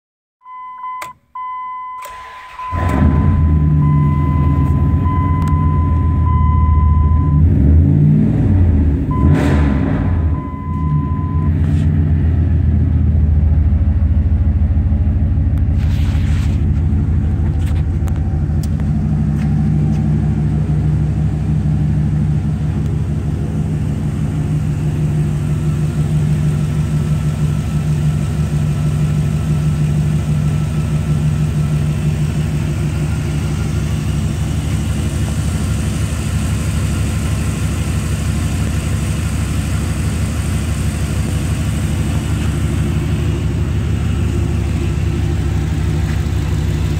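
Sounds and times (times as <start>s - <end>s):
truck engine idling: 1.4s - 7.8s, 10.0s - 46.9s.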